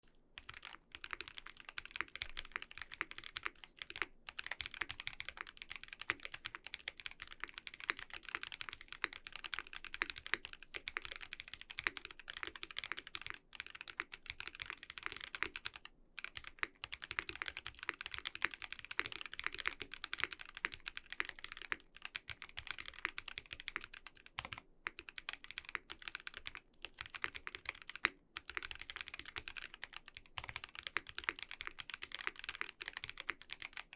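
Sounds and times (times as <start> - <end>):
fast mechanical keyboard typing: 0.4 - 33.9.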